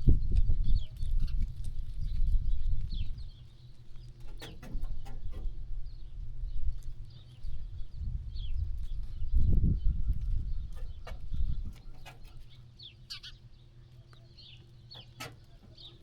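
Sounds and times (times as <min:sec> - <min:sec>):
farmyard birds chirping: 0:00.0 - 0:16.0.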